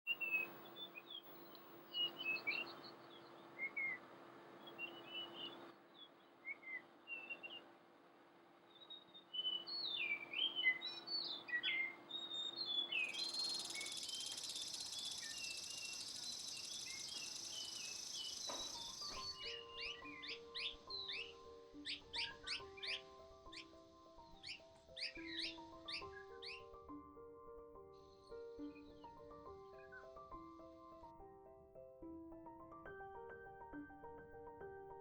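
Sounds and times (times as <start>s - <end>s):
songbirds chirping and whistling: 0.1s - 7.7s, 8.6s - 31.2s.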